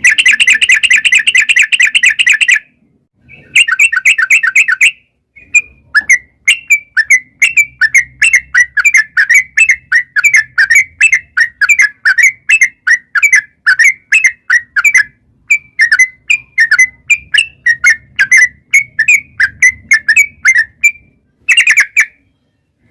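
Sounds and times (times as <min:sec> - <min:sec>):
bird singing bubbly whistled notes: 0:00.0 - 0:22.6.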